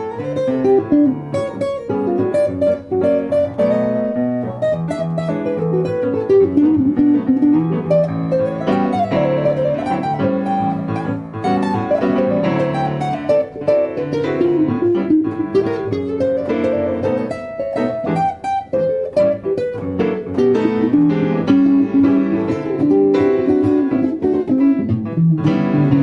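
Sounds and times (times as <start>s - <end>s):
blues guitar playing: 0.0s - 26.0s.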